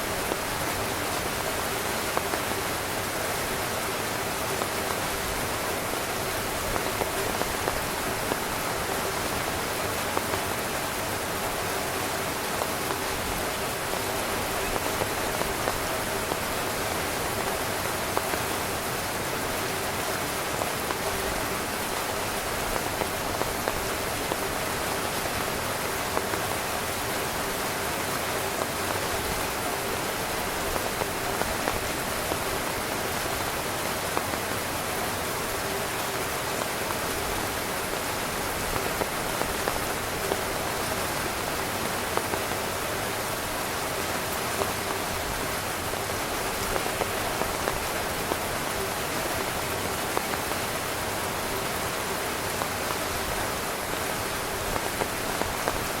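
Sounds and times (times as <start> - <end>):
rain falling on a tent: 0.0 - 56.0.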